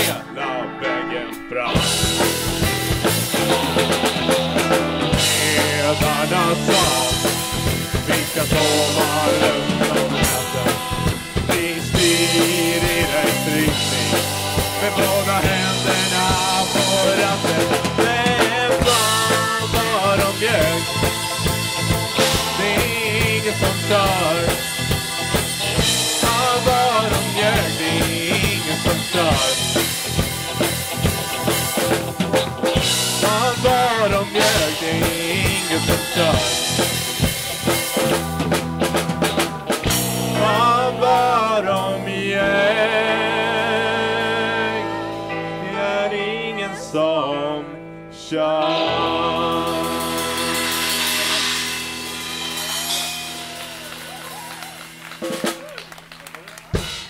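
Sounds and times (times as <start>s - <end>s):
drum kit: 0.0s - 0.3s, 1.3s - 45.8s, 48.6s - 57.0s
person singing: 0.0s - 25.0s, 25.8s - 30.0s, 32.8s - 37.0s, 40.0s - 53.9s
bass guitar: 0.0s - 57.0s
electric guitar: 0.0s - 57.0s.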